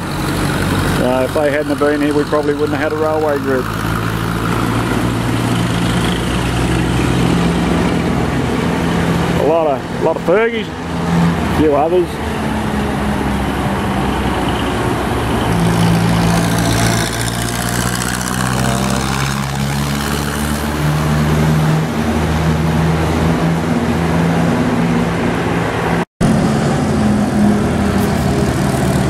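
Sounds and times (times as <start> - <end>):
tractor engines running: 0.0 - 29.0.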